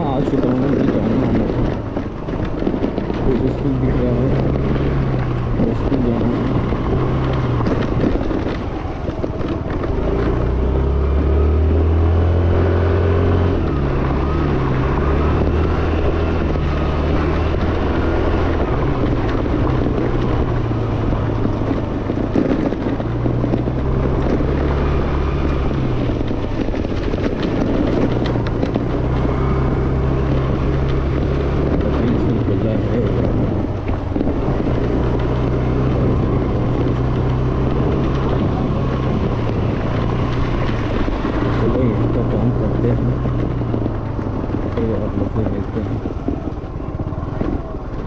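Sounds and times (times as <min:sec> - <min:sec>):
scooter engine running: 0:00.0 - 0:48.0
wind rushing over microphone: 0:00.0 - 0:48.0.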